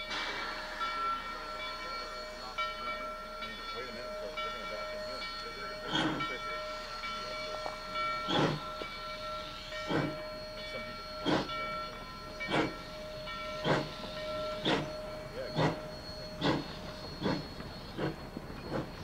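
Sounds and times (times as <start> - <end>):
faint steady high tone: 0.0 - 19.0.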